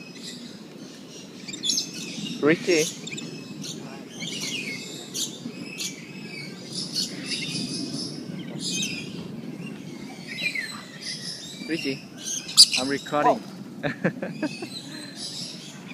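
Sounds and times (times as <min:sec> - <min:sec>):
lorikeets chattering and squawking: 0:00.2 - 0:13.5, 0:14.2 - 0:15.9.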